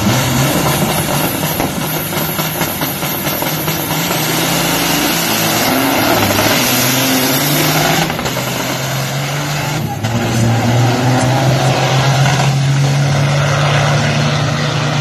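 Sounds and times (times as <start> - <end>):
diesel truck engines at full throttle: 0.0 - 15.0.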